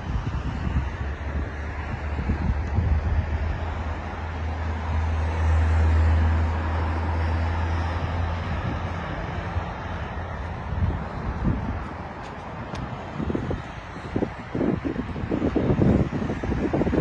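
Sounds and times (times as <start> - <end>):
traffic noise: 0.0 - 17.0
vehicle engine passing: 1.6 - 17.0.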